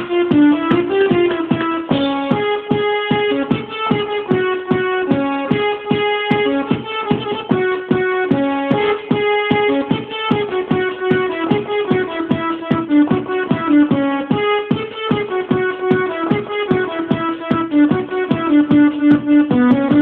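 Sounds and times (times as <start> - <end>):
electronic keyboard melody: 0.0 - 20.0.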